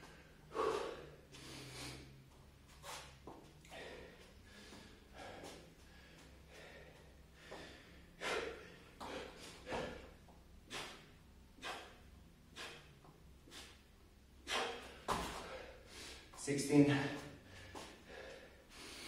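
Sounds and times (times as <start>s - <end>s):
man breathing hard: 0.0s - 19.0s.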